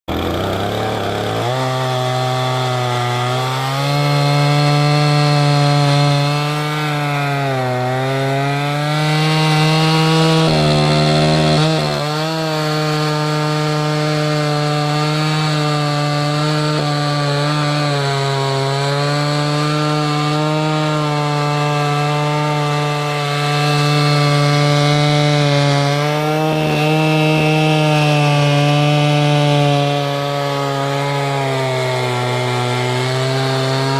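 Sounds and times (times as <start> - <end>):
chainsaw cutting log: 0.1 - 33.9.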